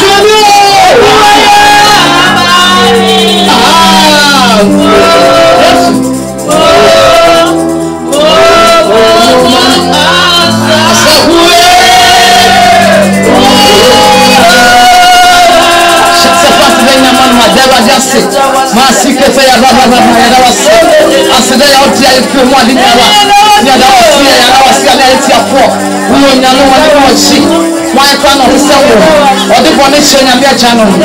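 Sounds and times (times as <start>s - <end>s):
gospel song with voices and instruments: 0.0s - 31.0s.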